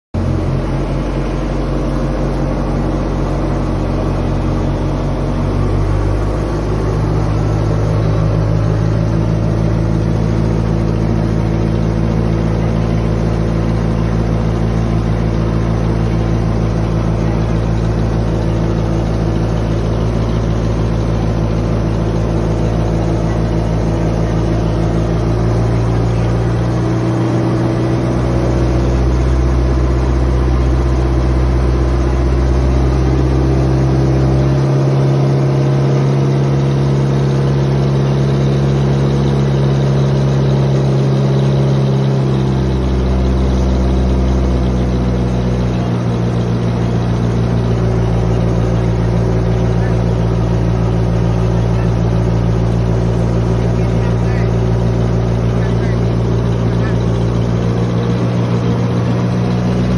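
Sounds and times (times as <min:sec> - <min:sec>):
ferry engine humming: 0:00.2 - 0:59.9.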